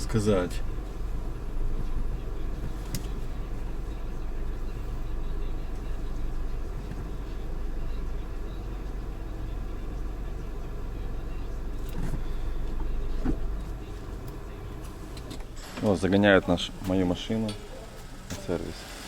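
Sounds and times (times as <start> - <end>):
car low rumble: 0.0 - 18.8.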